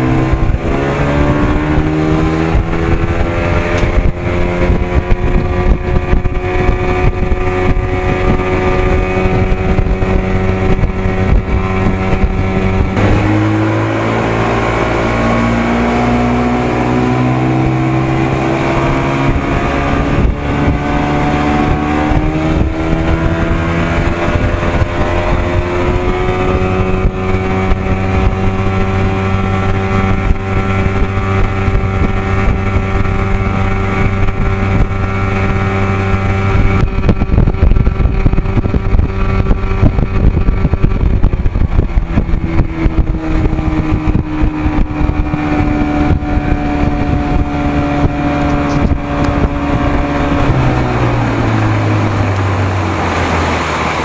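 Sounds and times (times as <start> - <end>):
outboard motor running: 0.0 - 54.0
wind on microphone: 0.0 - 54.0.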